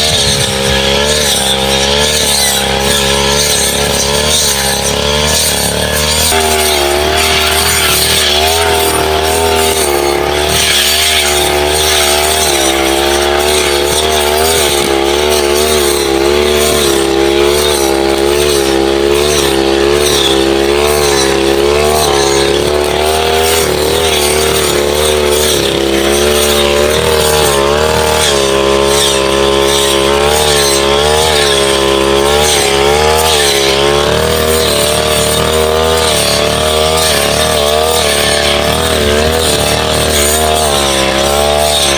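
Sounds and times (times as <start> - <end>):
brush cutter engine running: 0.0 - 41.9.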